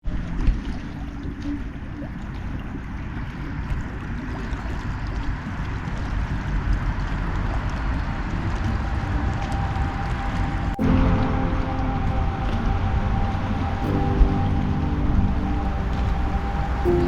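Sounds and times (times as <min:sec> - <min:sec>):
water lapping and gurgling: 0:00.0 - 0:17.0
steady low rumble: 0:00.2 - 0:17.0.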